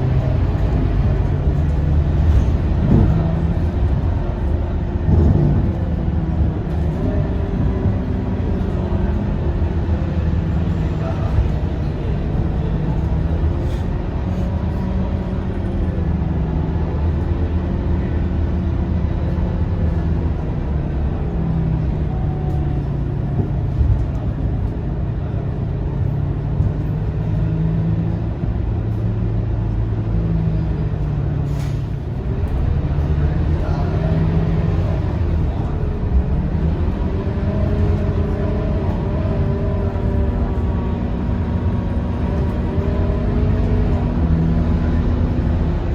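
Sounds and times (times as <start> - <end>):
bus diesel engine drone: 0.0 - 45.9
road noise: 0.0 - 45.9.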